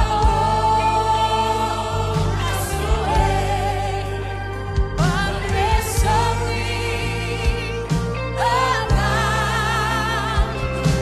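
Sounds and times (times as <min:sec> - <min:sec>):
gospel band playing: 0:00.0 - 0:11.0.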